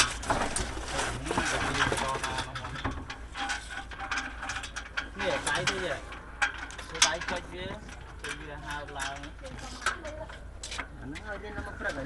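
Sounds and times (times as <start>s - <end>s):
clicking and rattling of hardware: 0.0s - 12.0s.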